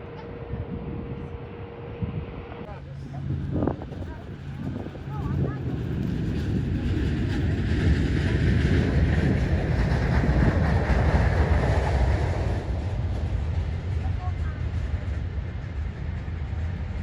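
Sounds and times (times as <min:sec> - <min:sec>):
jet engines roaring past: 0:00.0 - 0:17.0.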